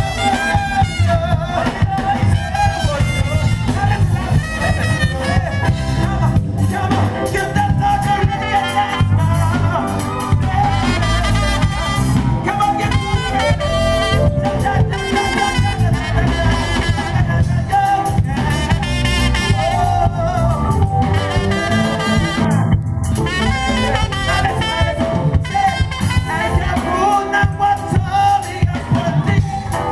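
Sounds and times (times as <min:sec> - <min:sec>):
brass-like melody: 0:00.0 - 0:29.9
live band playing upbeat music: 0:00.0 - 0:29.9.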